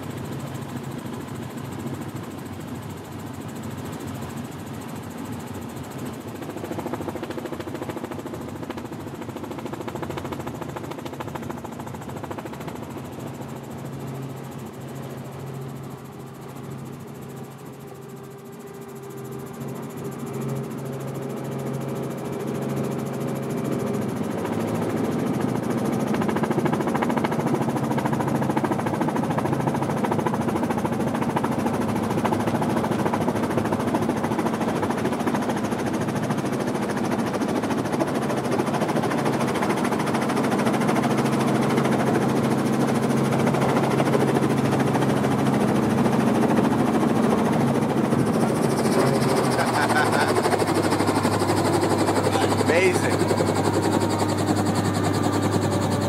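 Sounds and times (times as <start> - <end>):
helicopter engine and rotor: 0.0 - 56.0.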